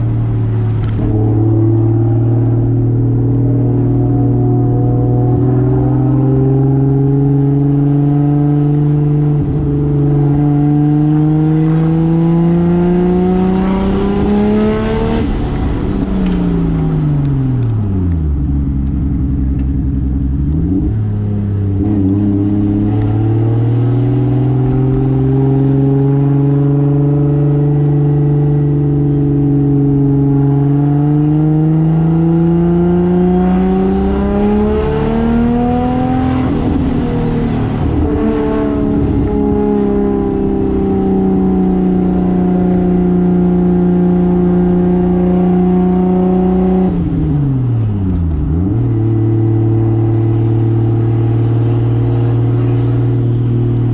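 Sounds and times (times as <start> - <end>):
car engine from inside cabin: 0.0 - 53.9.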